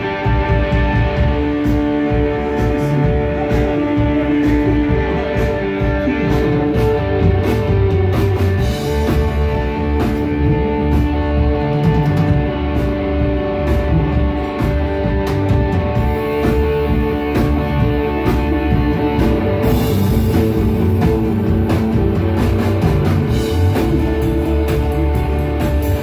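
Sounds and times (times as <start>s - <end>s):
electric guitar held notes: 0.0s - 26.0s.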